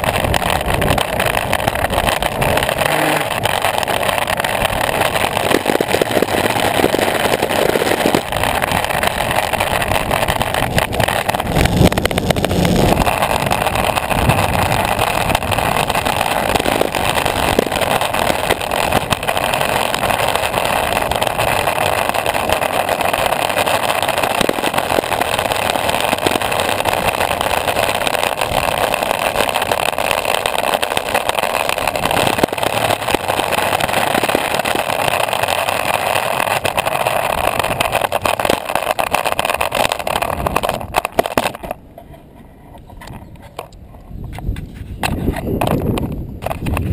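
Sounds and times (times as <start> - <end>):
longboard wheels rumbling on asphalt: 0.0 - 46.9
small clicks from road cracks: 0.0 - 46.9.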